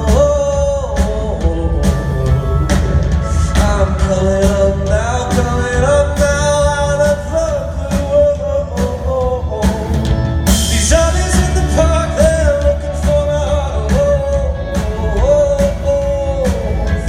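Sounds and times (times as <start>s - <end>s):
person singing long notes: 0.0s - 17.0s
rock band playing: 0.0s - 17.0s.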